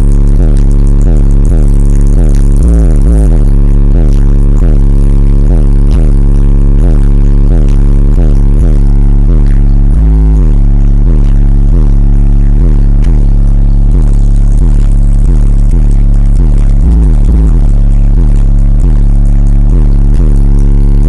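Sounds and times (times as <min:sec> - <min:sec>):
loud bass-heavy music: 0:00.0 - 0:21.0.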